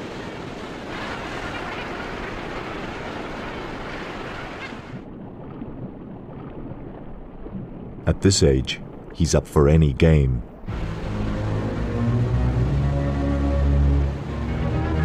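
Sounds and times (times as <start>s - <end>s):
waves and surf rushing: 0.0s - 15.0s.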